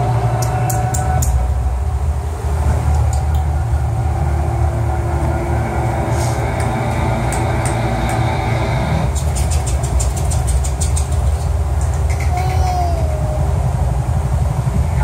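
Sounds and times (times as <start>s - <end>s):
low mechanical rumble and hum: 0.0s - 15.0s.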